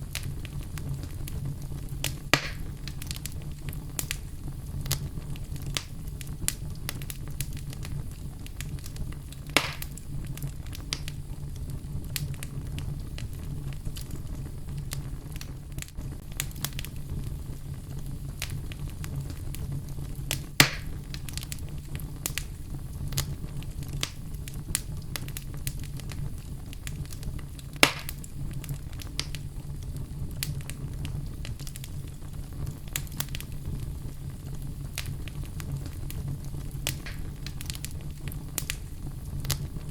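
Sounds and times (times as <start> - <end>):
fire crackling: 0.0 - 39.9
loud fire pops: 0.0 - 39.9.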